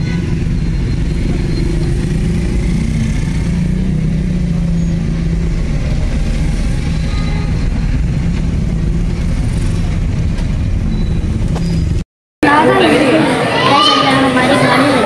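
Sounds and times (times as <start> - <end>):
heavy road traffic rumble: 0.0 - 15.0.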